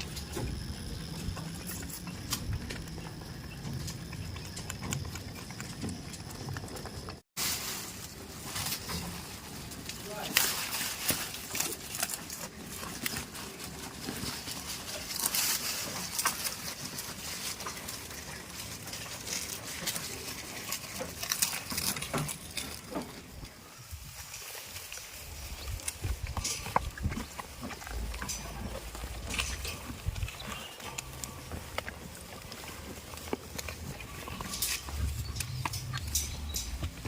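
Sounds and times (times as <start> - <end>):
rustling and clicking: 0.0 - 23.5, 24.2 - 37.0.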